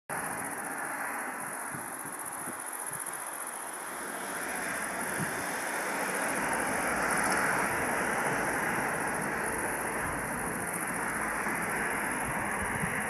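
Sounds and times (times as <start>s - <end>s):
turboprop aircraft engines droning: 0.1s - 13.0s.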